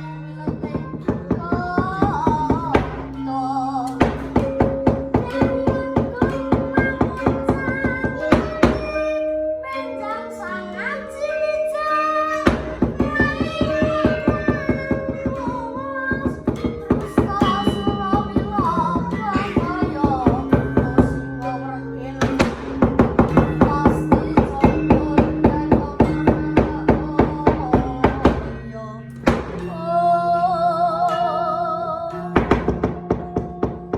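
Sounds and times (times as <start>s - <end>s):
rapid wooden knocks: 0.0s - 9.3s, 12.4s - 28.6s, 29.2s - 29.7s, 32.4s - 33.9s
gamelan metallophone tones: 0.0s - 33.9s
person singing: 0.0s - 33.9s.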